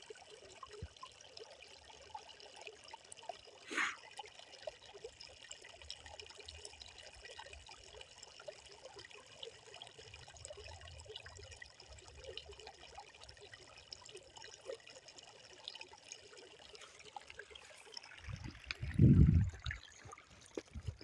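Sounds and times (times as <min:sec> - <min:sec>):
water trickling: 0:00.0 - 0:21.0.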